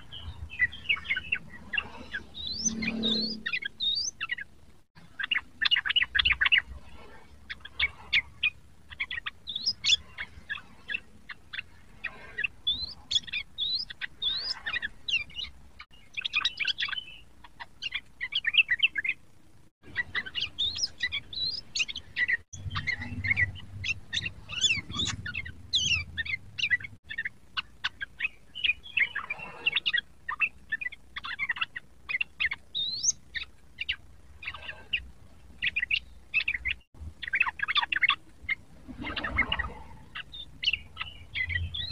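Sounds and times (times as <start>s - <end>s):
bird chirping and whistling: 0.0s - 4.4s, 9.0s - 17.2s, 19.9s - 34.8s, 35.6s - 41.9s.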